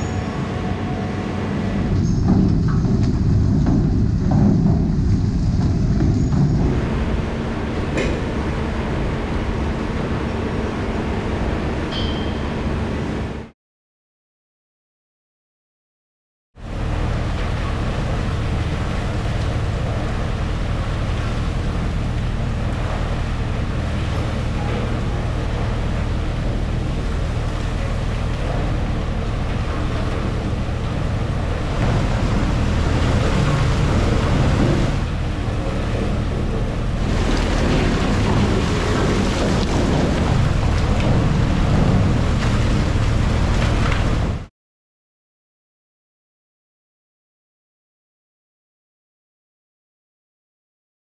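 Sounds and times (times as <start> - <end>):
heavy machinery droning: 0.0 - 13.5, 16.6 - 44.5.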